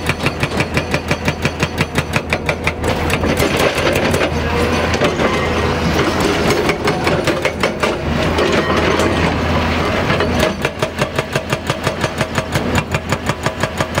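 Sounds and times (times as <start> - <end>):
hydraulic breaker hammering: 0.0 - 9.4, 10.0 - 14.0
diesel engine under load: 0.0 - 14.0.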